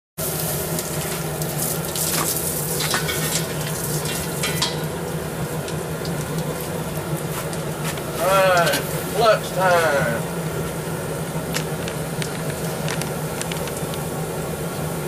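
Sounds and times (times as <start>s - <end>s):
gas forge hissing roar: 0.2s - 15.0s.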